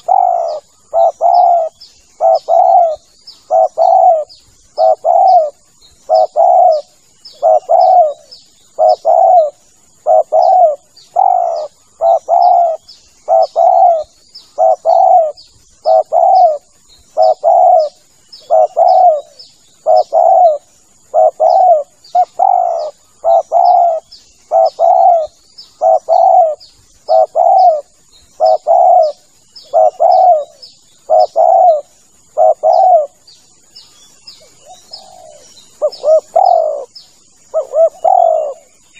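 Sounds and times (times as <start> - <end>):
dove cooing: 0.0 - 33.3, 34.4 - 38.8.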